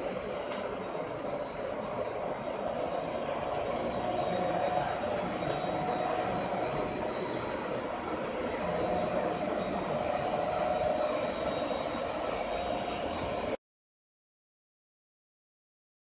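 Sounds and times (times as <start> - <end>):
faint hum: 0.0 - 13.6.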